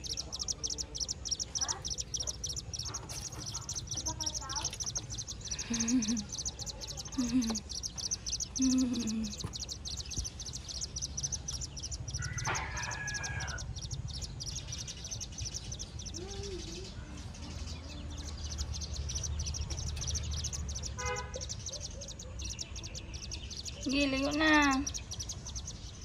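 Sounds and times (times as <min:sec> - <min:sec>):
low rumble: 0:00.0 - 0:20.9
rail chick peeping: 0:00.0 - 0:26.0.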